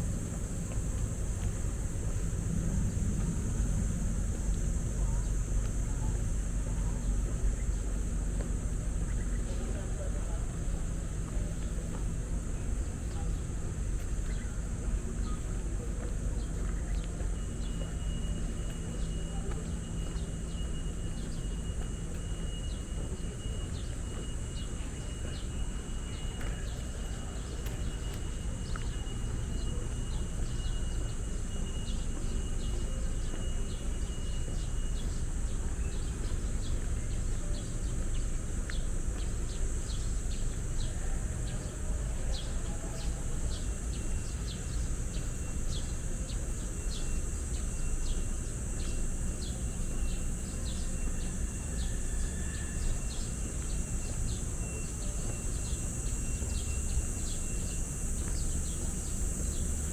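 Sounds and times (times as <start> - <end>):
distant city traffic rumble: 0.0 - 59.9
insect buzz with ticking chirps: 0.0 - 59.9.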